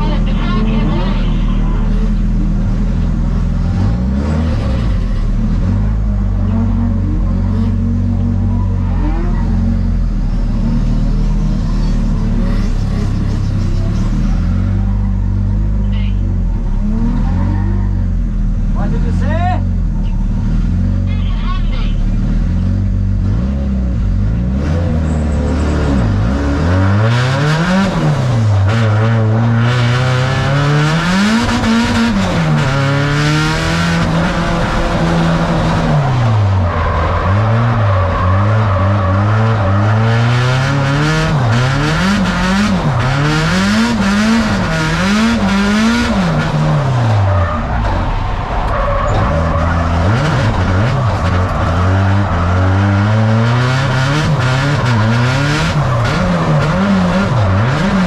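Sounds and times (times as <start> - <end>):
car engine revving: 0.0 - 58.0
tyres skidding: 0.0 - 58.0.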